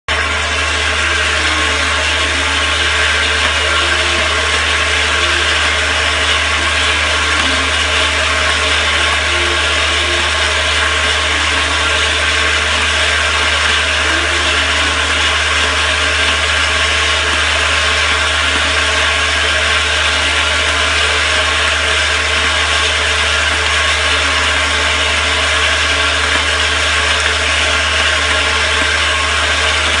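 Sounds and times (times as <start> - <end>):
machine humming and whirring: 0.1 - 30.0.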